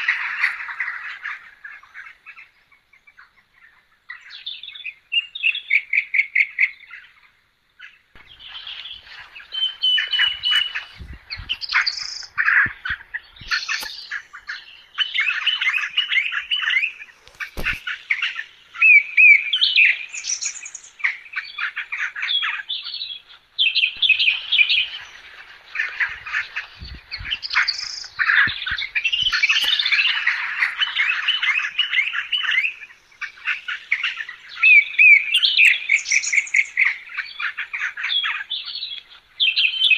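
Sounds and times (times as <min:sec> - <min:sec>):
small birds chirping and chattering: 0:00.0 - 0:39.9.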